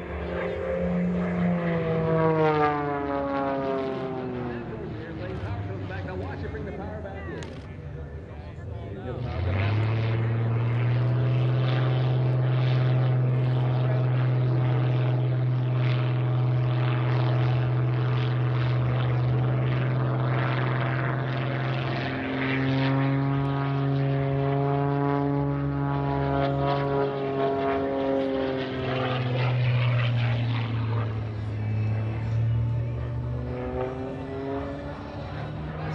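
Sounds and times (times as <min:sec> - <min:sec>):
higher shifting engine tone: 0:00.0 - 0:07.6, 0:08.3 - 0:35.9
propeller plane engine drone: 0:00.0 - 0:35.9.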